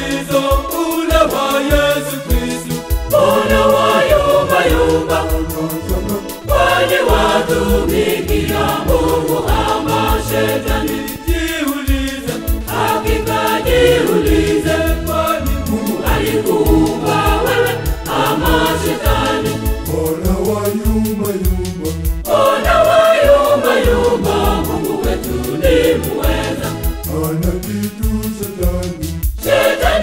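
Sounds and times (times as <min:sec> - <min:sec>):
choir singing gospel: 0:00.0 - 0:30.0
instrumental backing with bass beat: 0:00.0 - 0:30.0.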